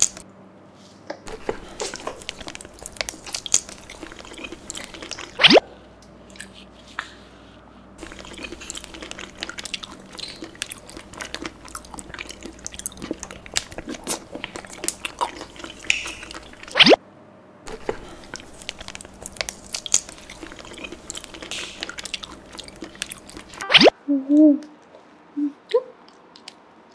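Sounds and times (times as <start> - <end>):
wet chewing of gummy food: 0.0 - 0.2, 1.2 - 17.0, 17.7 - 23.9
sticky mouth clicks: 1.3 - 7.1, 8.0 - 17.0, 17.7 - 24.9.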